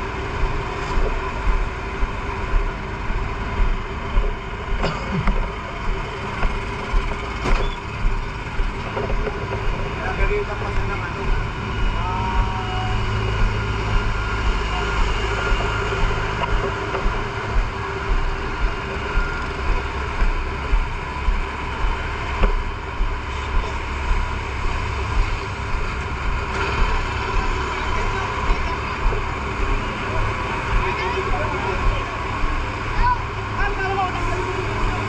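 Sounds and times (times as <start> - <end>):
fire truck engine running: 0.0 - 35.0.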